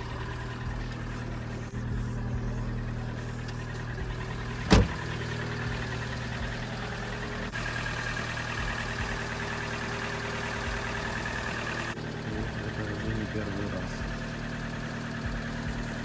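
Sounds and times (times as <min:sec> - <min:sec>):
petrol engine clattering: 0:00.0 - 0:16.0.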